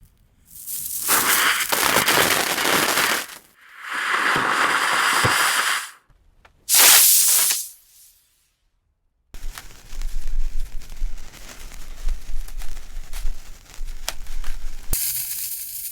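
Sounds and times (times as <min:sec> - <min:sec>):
fireworks popping and hissing: 0:00.4 - 0:06.0, 0:06.7 - 0:08.2, 0:09.4 - 0:15.9.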